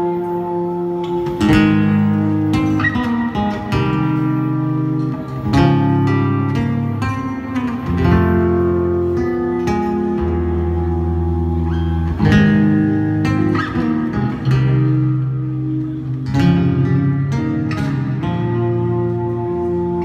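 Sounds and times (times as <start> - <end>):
electric guitars playing chords: 0.0 - 20.0.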